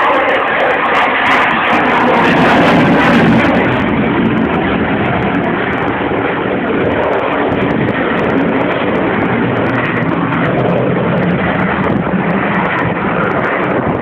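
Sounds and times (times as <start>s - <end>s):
loud jet engine noise: 0.0s - 14.0s.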